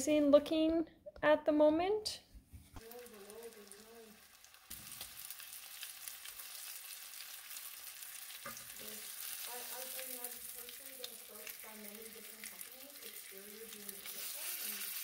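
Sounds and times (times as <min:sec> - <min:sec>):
chicken sizzling in frying pan: 0:02.8 - 0:15.0.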